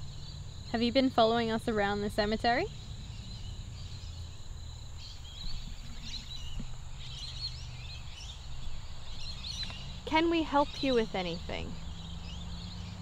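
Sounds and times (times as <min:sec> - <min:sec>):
bird chirping: 0:00.0 - 0:13.0
low outdoor rumble: 0:00.0 - 0:13.0.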